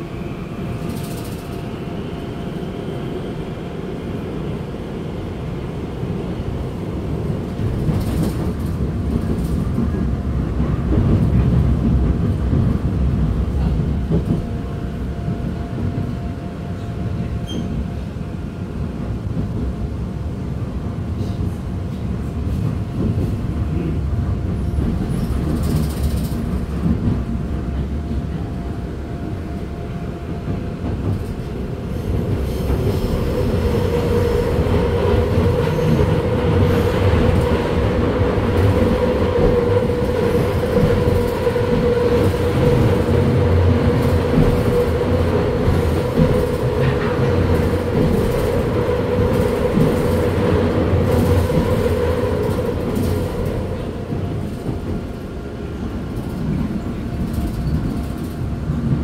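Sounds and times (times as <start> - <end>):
subway train wheels rumbling: 0.0 - 59.0
train whine: 0.0 - 59.0.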